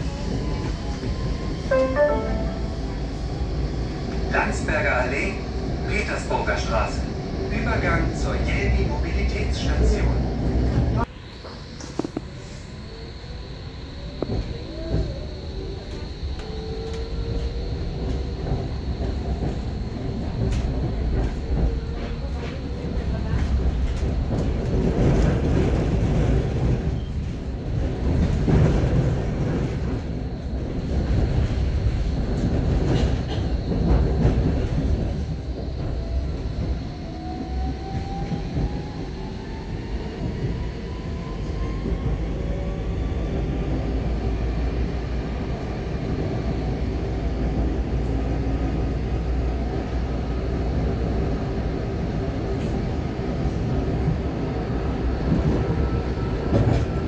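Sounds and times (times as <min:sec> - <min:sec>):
tram rumbling: 0:00.0 - 0:57.0.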